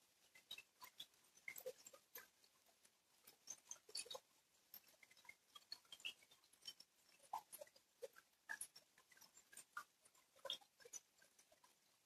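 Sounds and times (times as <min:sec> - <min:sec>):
rain drips and taps: 0:00.0 - 0:12.0.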